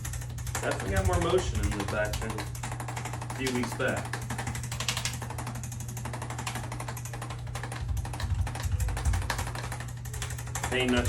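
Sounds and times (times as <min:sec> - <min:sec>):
fast mechanical clicking: 0:00.0 - 0:11.0
machine humming: 0:00.0 - 0:11.0.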